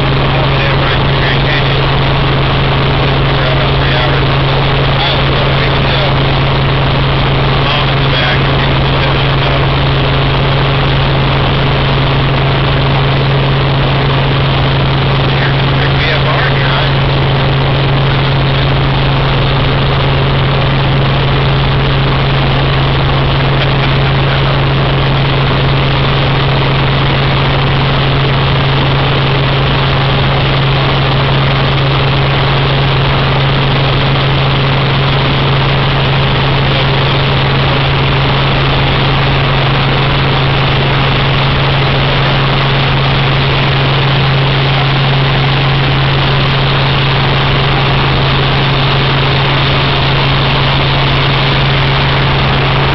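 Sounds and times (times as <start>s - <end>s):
helicopter cabin drone: 0.0s - 52.9s.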